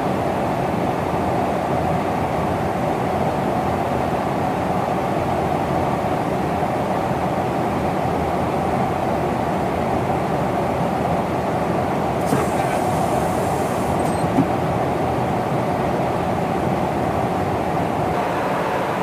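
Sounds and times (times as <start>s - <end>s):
aircraft cabin engine drone: 0.0s - 19.0s.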